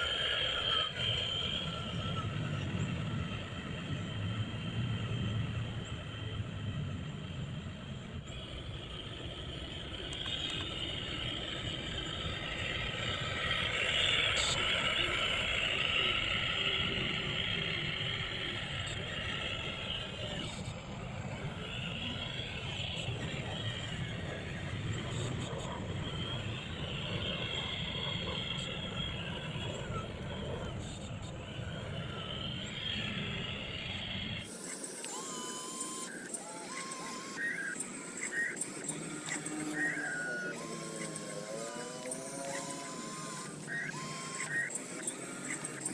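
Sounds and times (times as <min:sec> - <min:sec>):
toy truck motor whining: 0:00.0 - 0:45.9.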